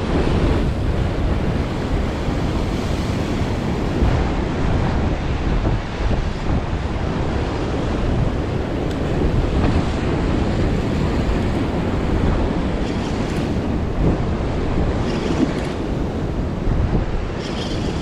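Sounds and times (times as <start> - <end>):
waves washing in: 0.0 - 18.0
wind buffeting microphone: 0.0 - 18.0.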